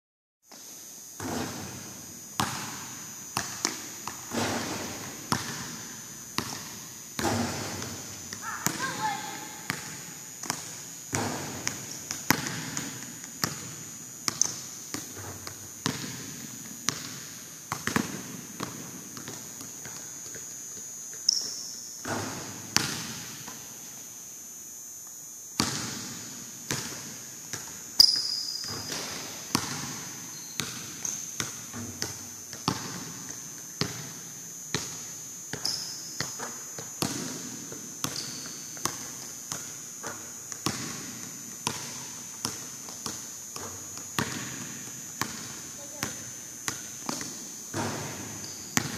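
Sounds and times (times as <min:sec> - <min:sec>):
basketballs bouncing on gym floor: 0:01.2 - 0:23.6, 0:25.6 - 0:48.9.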